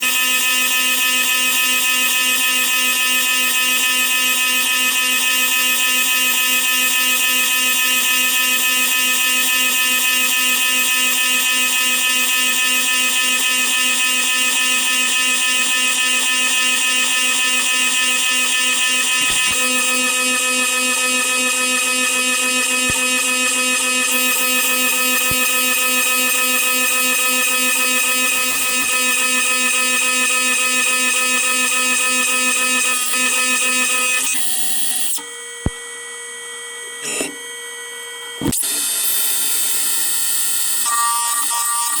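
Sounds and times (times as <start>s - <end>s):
milling machine buzzing whine: 0.0s - 42.0s.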